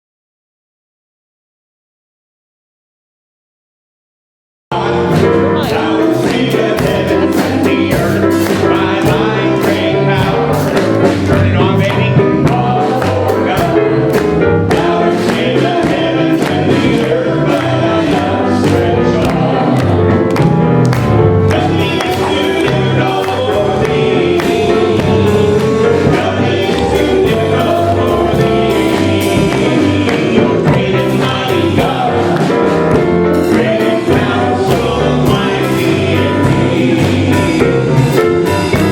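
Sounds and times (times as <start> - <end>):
gospel singing with steady beat: 4.7 - 38.9.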